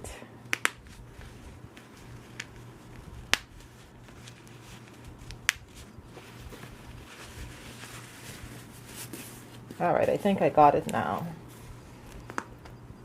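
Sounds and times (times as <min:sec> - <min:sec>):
fabric handling: 0:00.8 - 0:12.4.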